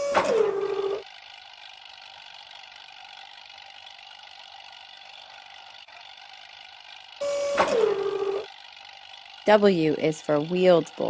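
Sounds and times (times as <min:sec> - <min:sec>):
construction vehicle running: 0:00.0 - 0:11.0.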